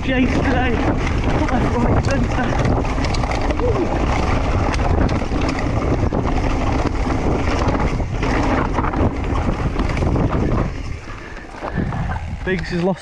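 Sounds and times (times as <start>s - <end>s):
bike rattling and clicking: 0.0s - 13.0s
bike tyres rumbling over dirt: 0.0s - 13.0s
wind buffeting microphone: 0.0s - 13.0s.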